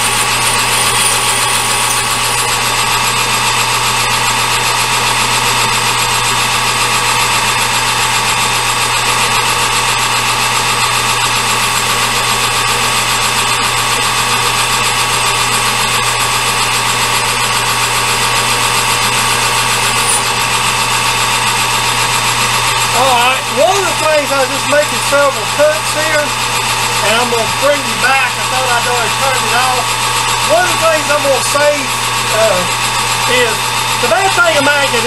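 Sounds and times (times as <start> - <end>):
metal lathe running: 0.0 - 35.0.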